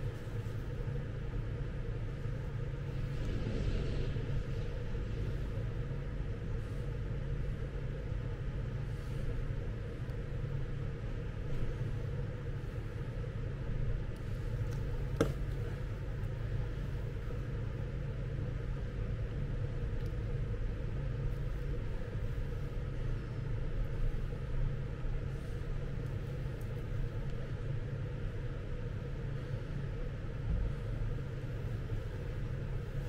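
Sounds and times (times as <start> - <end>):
low hum and rumble: 0.0 - 33.0.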